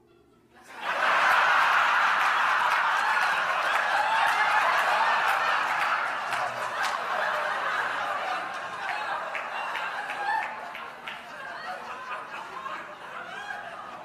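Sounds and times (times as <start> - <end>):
audience laughing: 0.6 - 14.0.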